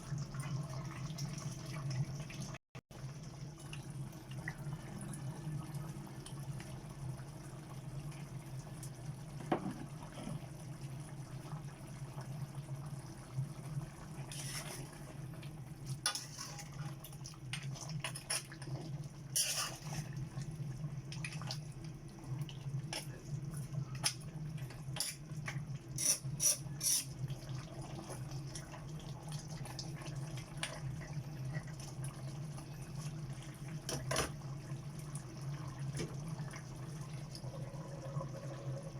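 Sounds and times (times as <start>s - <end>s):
water running in a kitchen: 0.0s - 38.9s.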